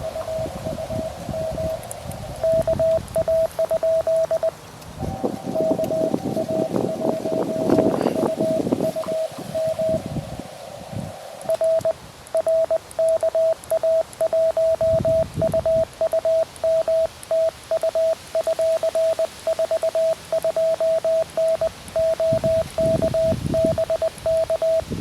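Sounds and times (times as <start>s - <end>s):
morse code tone: 0.0s - 10.2s, 11.4s - 25.0s.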